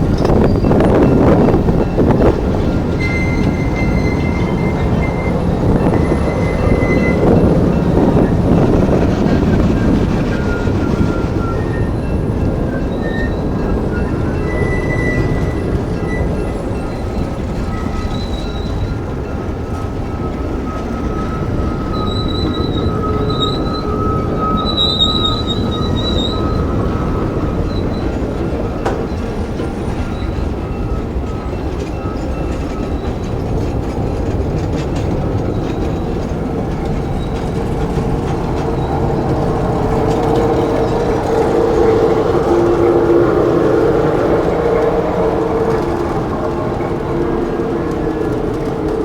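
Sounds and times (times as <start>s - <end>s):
high-pitched wheel squeal: 0.0s - 19.2s, 20.3s - 49.0s
train wheels rumbling on rail: 0.0s - 49.0s.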